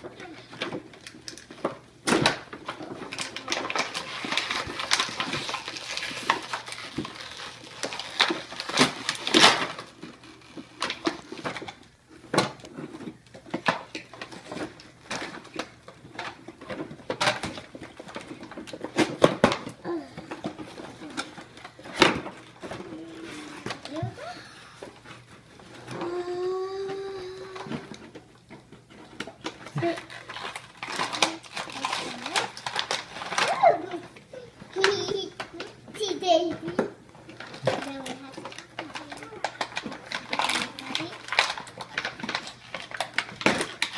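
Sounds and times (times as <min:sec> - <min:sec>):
plastic packaging crackling: 0:00.0 - 0:24.0, 0:24.9 - 0:35.8, 0:36.4 - 0:43.9.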